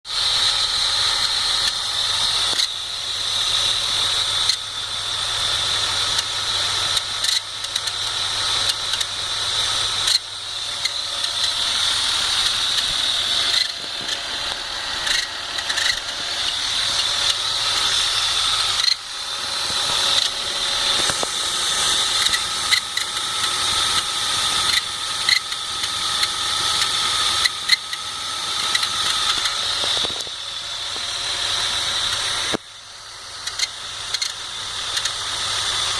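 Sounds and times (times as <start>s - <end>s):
car engine running: 0.1s - 35.9s
high-pitched whine: 0.1s - 35.9s.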